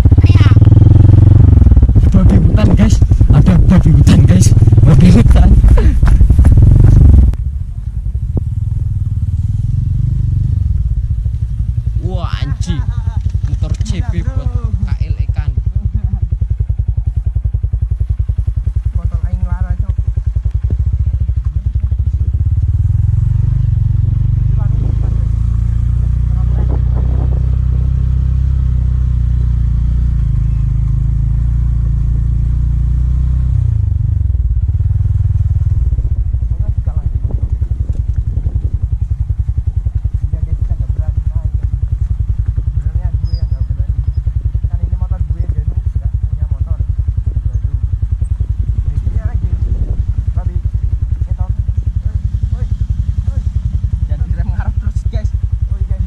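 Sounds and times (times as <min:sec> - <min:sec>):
motorcycle engine puttering: 0:00.0 - 0:56.0.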